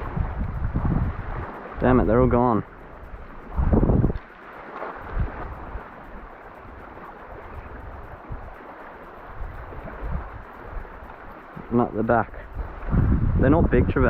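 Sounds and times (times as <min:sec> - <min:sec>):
sea water washing: 0:00.0 - 0:14.0
wind buffeting microphone: 0:00.0 - 0:14.0.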